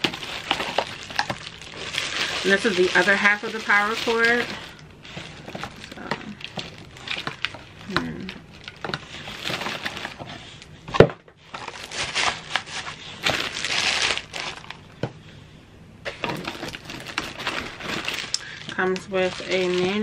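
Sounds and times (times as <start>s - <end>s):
plastic bags crinkling: 0.0s - 10.7s, 11.4s - 15.1s, 16.1s - 20.0s.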